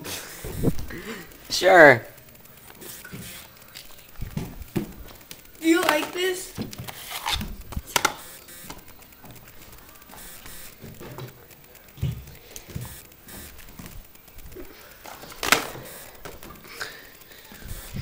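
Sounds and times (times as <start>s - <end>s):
camera handling rustling: 2.4s - 18.0s.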